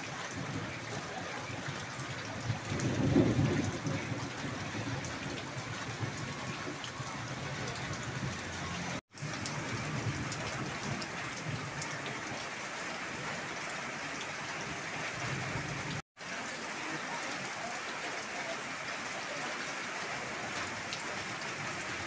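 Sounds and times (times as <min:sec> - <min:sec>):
heavy rain on lawn and puddles: 0:00.0 - 0:22.0.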